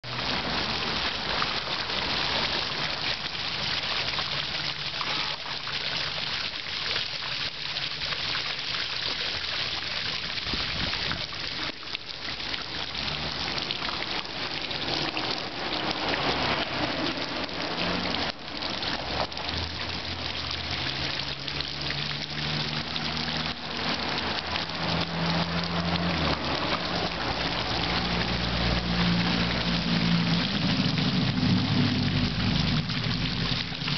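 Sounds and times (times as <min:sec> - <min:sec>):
fountain water splashing into pool: 0:00.0 - 0:33.9.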